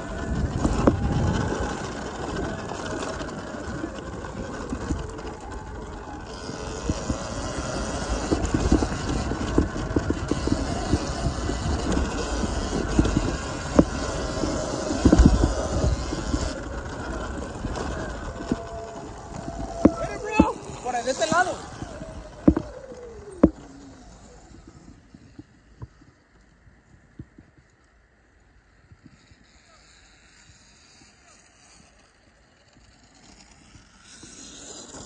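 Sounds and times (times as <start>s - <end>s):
dirt bike ride rumbling: 0.0s - 35.0s.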